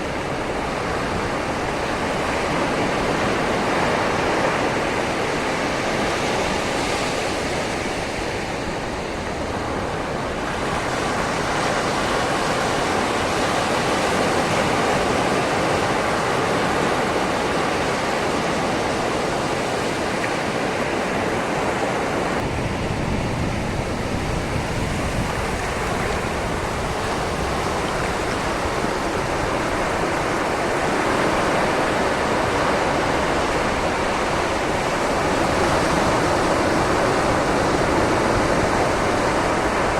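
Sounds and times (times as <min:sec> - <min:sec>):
sea waves on shoreline: 0:00.0 - 0:39.9.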